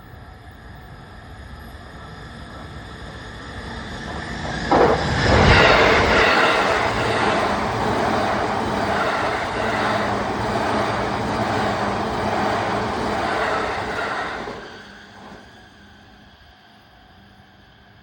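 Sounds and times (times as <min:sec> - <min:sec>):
train wheels on rails: 0:00.1 - 0:17.8.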